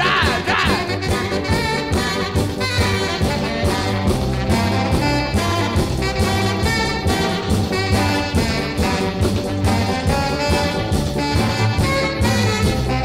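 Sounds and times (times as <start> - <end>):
swing jazz with brass: 0.0 - 13.0.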